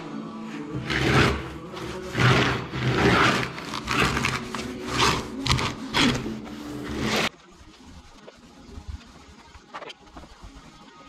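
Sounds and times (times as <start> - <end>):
paint roller swishing on wood: 0.5 - 11.0.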